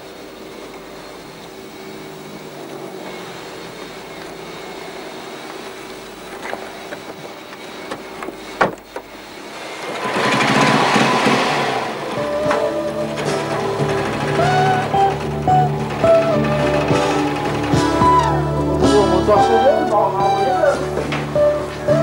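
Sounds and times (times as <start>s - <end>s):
steady low hum: 0.0s - 22.0s
motorcycle engine running: 0.7s - 21.9s.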